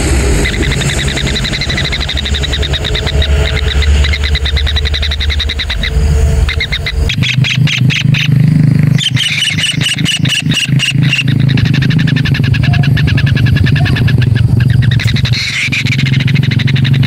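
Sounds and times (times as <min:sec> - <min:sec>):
nestlings chittering begging calls: 0:00.0 - 0:17.0
steady low hum: 0:00.0 - 0:17.0.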